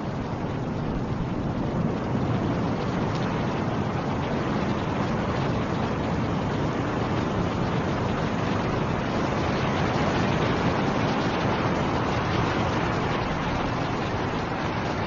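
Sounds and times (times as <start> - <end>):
snowstorm wind rushing: 0.0 - 15.0.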